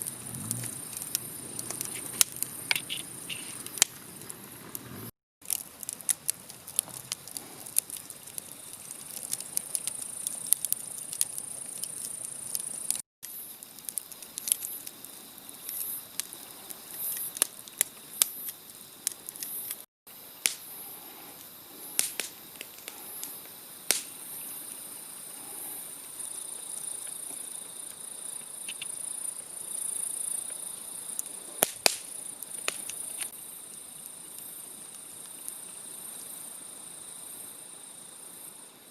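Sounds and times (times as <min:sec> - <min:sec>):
wood fire crackling: 0:00.0 - 0:36.6
insects chirring: 0:00.0 - 0:38.9.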